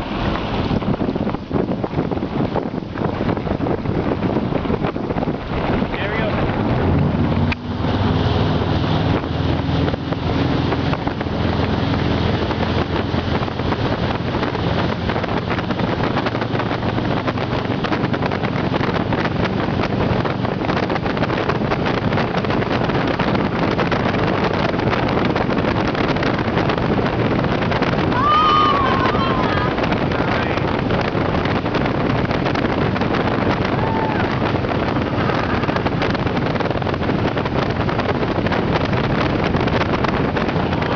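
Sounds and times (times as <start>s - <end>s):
motorboat engine running: 0.0s - 40.9s
wind buffeting microphone: 0.0s - 40.9s.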